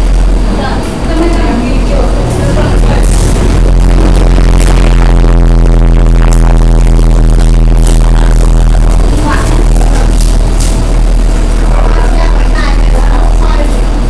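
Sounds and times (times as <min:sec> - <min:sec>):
loud music with heavy bass: 0:00.0 - 0:14.0.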